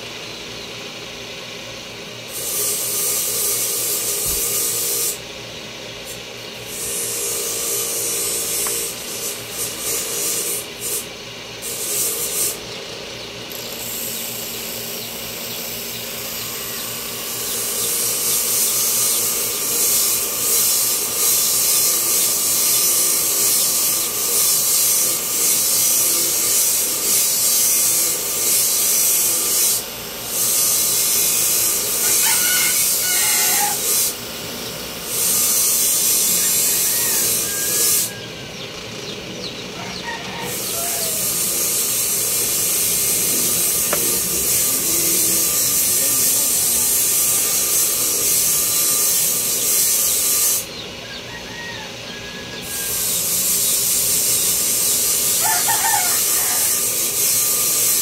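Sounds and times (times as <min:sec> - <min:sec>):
power tool grinding: 0:02.2 - 0:05.4, 0:06.0 - 0:50.8, 0:52.6 - 0:58.0.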